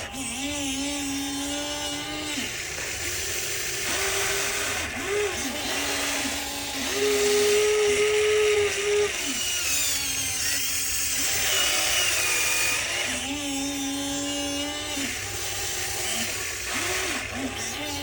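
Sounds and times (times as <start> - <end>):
toy excavator motors whining: 0.0 - 18.0.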